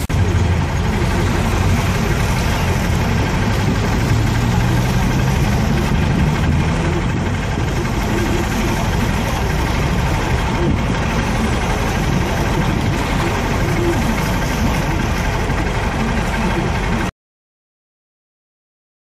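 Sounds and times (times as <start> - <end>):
cars driving past: 0.0 - 17.1.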